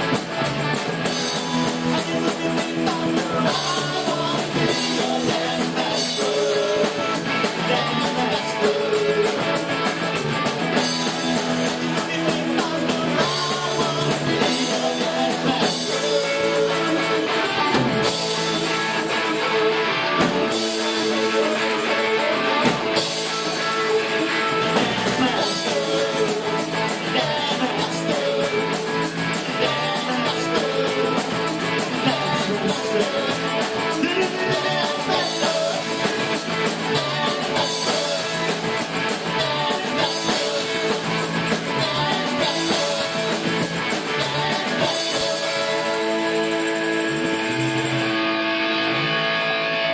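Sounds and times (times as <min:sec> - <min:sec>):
drum kit with hi-hat ticks: 0:00.0 - 0:19.5, 0:20.2 - 0:48.2
electric guitar: 0:00.0 - 0:49.9
person singing: 0:01.0 - 0:48.0.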